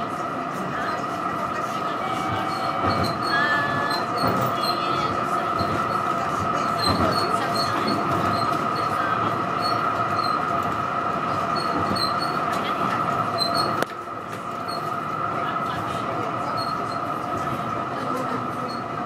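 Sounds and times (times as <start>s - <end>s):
tram motor whine: 0.0s - 19.0s
wheels rumbling on rail: 0.0s - 19.0s.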